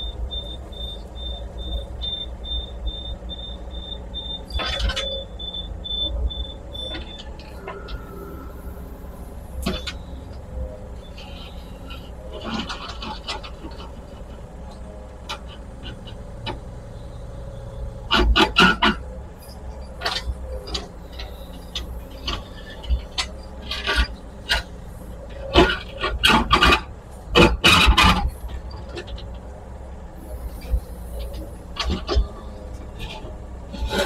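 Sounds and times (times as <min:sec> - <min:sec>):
excavator engine running: 0:00.0 - 0:34.0.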